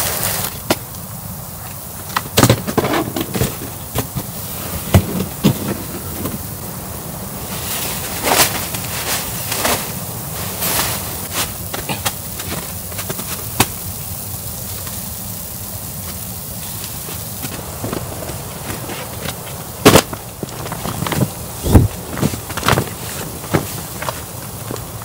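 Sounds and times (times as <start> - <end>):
low background noise: 0.0 - 25.0.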